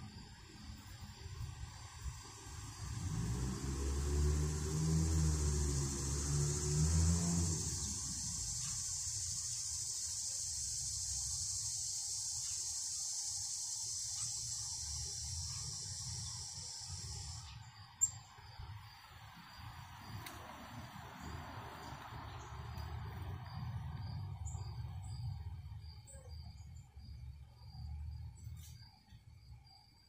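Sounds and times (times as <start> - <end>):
low vehicle rumble: 0.0 - 11.7, 14.4 - 28.6
insect chorus trilling: 0.0 - 30.0.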